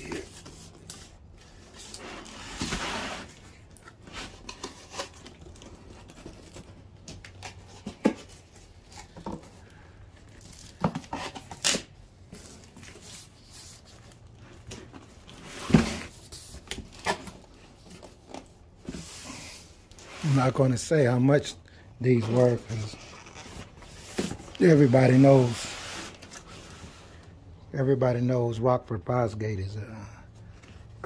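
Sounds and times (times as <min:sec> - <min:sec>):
cardboard rustling and scraping: 0:00.0 - 0:20.9, 0:22.0 - 0:27.2.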